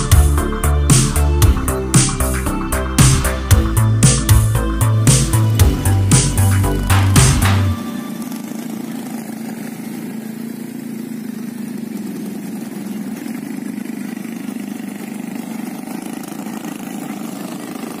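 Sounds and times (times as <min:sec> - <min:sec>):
quad bike engines running: 0:00.0 - 0:18.0.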